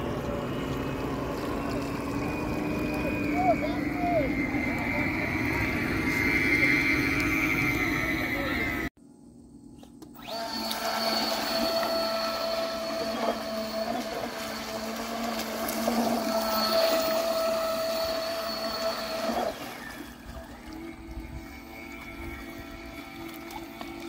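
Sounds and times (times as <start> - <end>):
water swishing: 0.0 - 8.8, 10.5 - 24.0
model boat motor whining: 0.0 - 8.9, 10.2 - 24.0.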